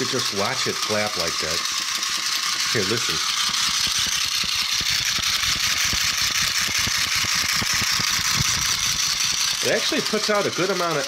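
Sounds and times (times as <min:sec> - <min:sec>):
rapid clicking clatter of wings: 0:00.0 - 0:11.0
toy motor whirring: 0:00.0 - 0:11.0.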